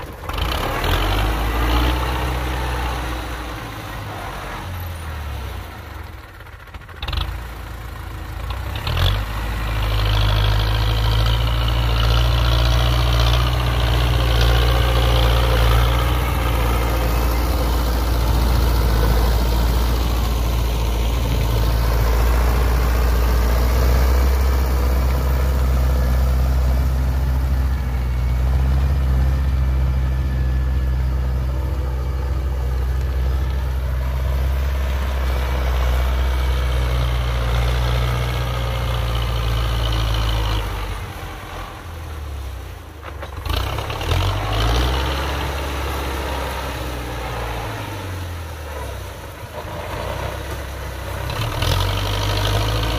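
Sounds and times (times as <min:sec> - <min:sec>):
rotary tiller churning soil: 0:00.0 - 0:52.9
tractor diesel engine running: 0:00.0 - 0:52.9.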